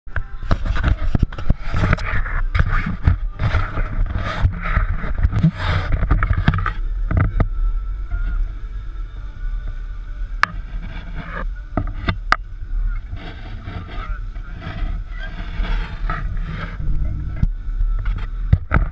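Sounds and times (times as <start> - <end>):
boat engine running: 0.3 - 18.9.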